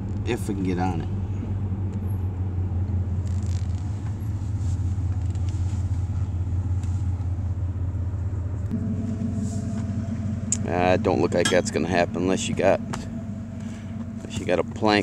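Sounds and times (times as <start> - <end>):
car engine and road rumble: 0.0 - 15.0
higher engine note: 0.0 - 15.0.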